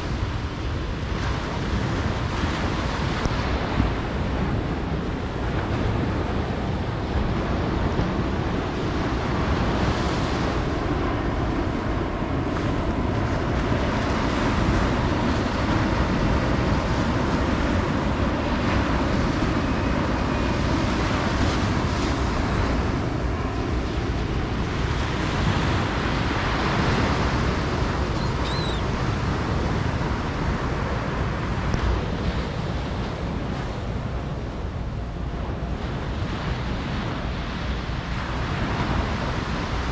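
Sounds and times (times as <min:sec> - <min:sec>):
ocean waves breaking: 0:00.0 - 0:39.9
wind rumbling on microphone: 0:00.0 - 0:39.9.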